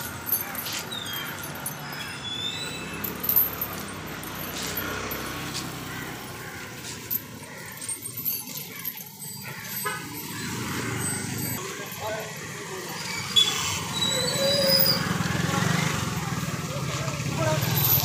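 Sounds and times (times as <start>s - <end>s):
heavy chains clinking and rattling: 0.0s - 18.0s.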